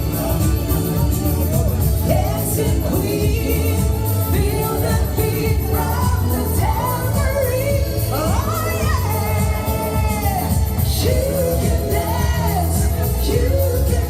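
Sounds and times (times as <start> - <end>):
pop song with singer: 0.0 - 14.0.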